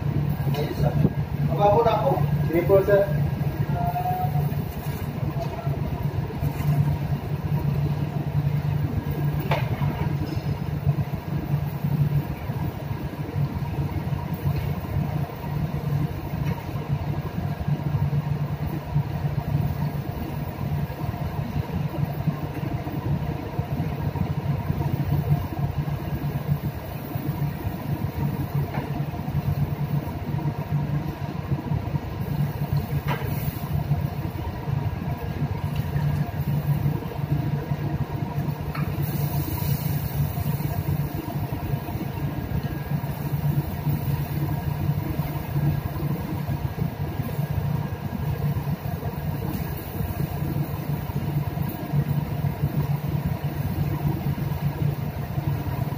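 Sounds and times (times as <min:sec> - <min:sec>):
ship machinery drone: 0:00.0 - 0:55.9.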